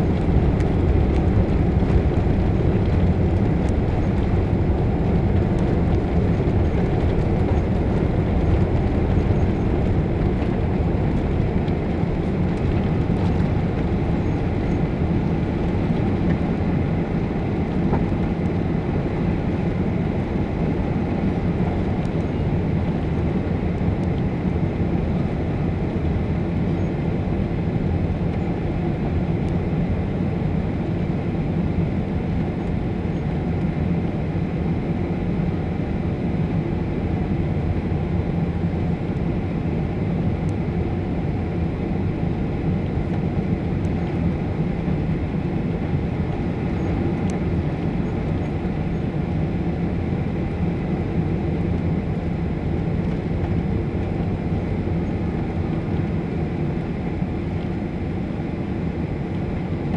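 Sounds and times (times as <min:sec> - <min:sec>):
jet engines heard from cabin: 0:00.0 - 0:59.9.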